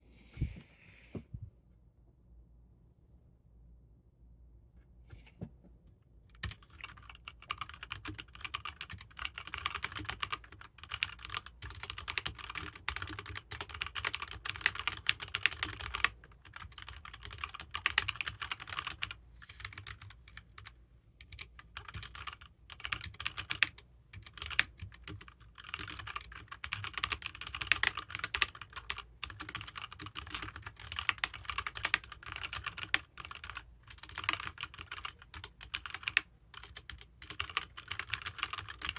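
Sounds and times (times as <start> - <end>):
mechanical keyboard typing: 6.4 - 38.9.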